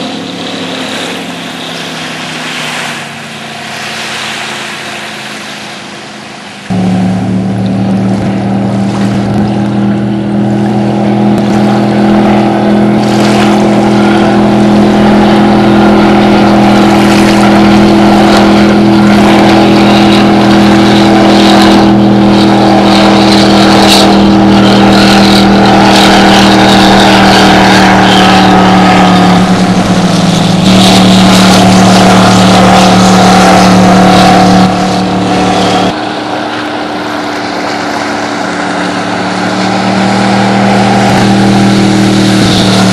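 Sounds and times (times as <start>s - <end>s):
rushing water and wind: 0.0s - 42.9s
speedboat engine at high revs: 0.0s - 42.9s.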